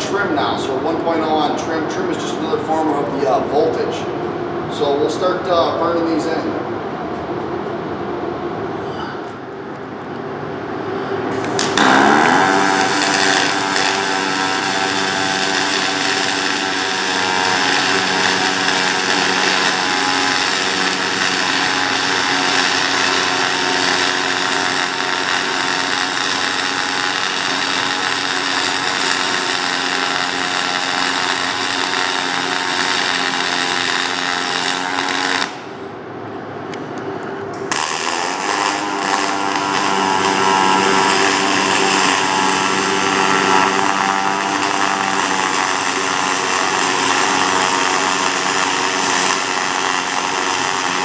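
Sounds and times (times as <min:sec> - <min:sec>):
welding arc buzzing hum: 0:00.0 - 0:51.0.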